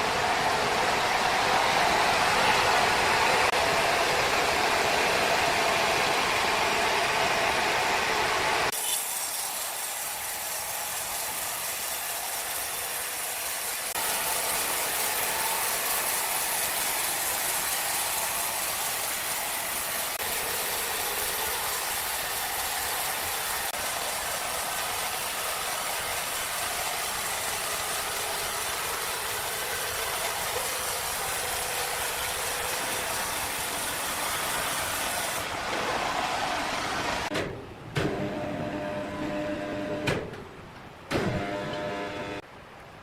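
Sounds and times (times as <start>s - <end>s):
sawmill machinery rattling and humming: 0.0s - 40.1s.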